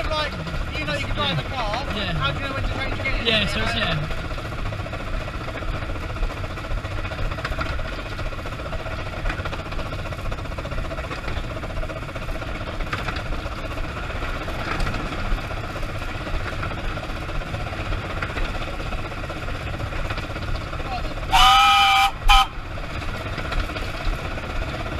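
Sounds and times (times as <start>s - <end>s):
steam locomotive rumbling and rattling: 0.0s - 24.9s.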